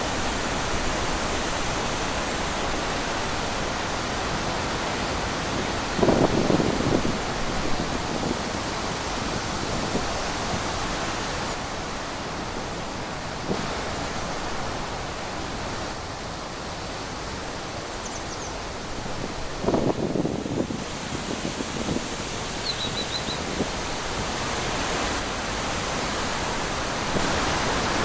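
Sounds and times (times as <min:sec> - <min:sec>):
wind blowing through trees: 0:00.0 - 0:28.0.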